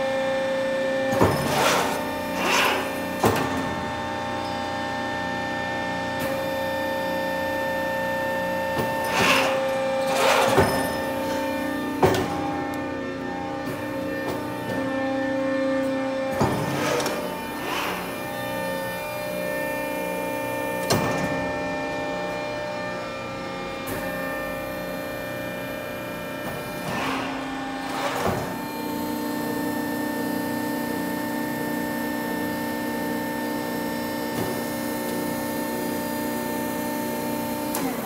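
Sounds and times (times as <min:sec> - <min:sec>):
hydraulic motor and pump humming: 0:00.0 - 0:38.0.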